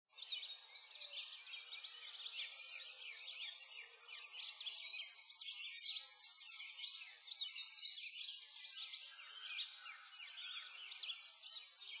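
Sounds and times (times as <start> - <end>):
songbirds chirping: 0.1 - 12.0.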